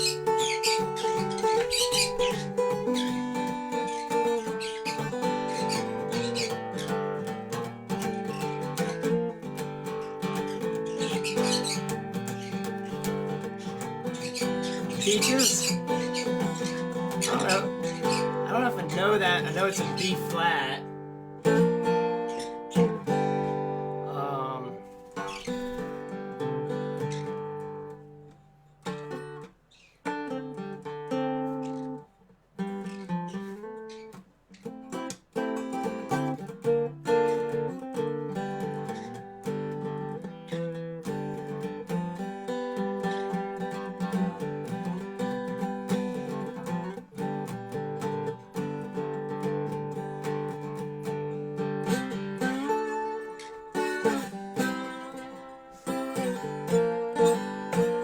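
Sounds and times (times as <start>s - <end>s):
resonator guitar picking: 0.0s - 58.0s.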